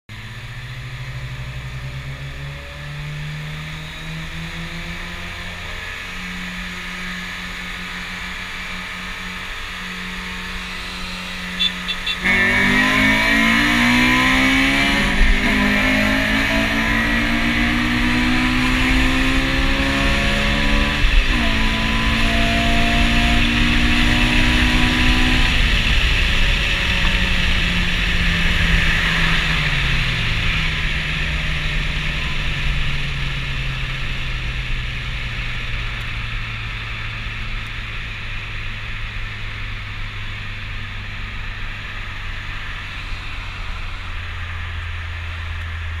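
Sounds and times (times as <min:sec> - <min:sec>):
car engine revving: 0:00.1 - 0:46.0
wind and road noise: 0:00.1 - 0:46.0.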